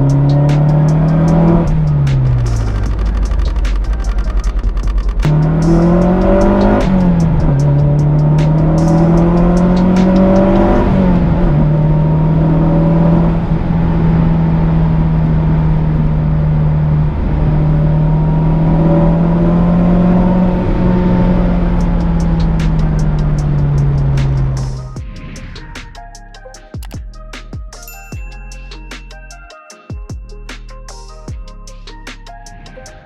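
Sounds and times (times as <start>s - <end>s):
car engine accelerating: 0.0s - 26.5s.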